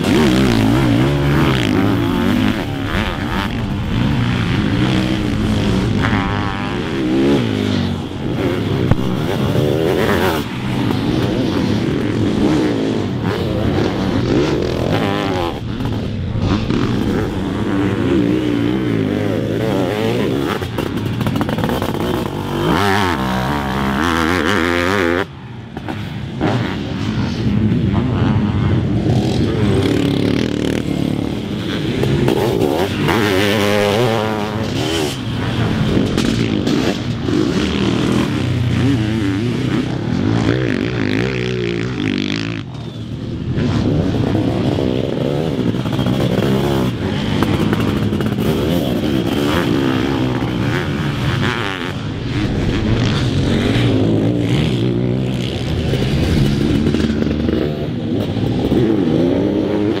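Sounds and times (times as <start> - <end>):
motorcycle engines revving: 0.0 - 60.0.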